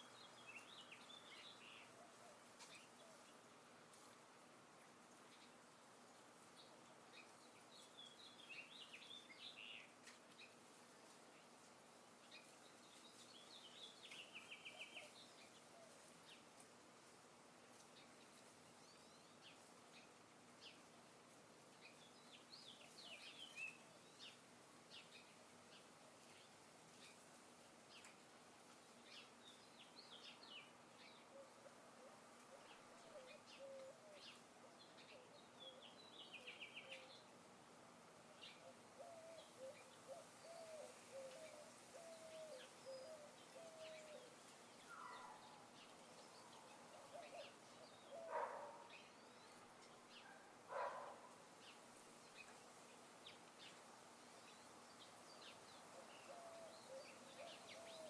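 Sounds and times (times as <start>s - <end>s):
faint steady hiss: 0.0s - 58.0s
small birds chirping: 0.0s - 58.0s.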